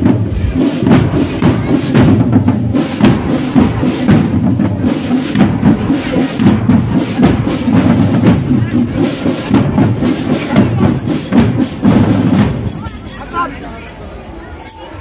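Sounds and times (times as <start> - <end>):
marching drum corps playing: 0.0 - 13.7.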